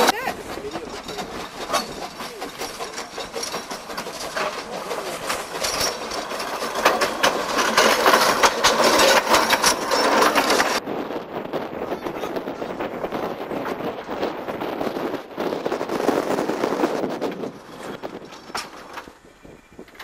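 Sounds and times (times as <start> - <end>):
train wheels clattering on rails: 0.0 - 10.8, 11.4 - 20.0.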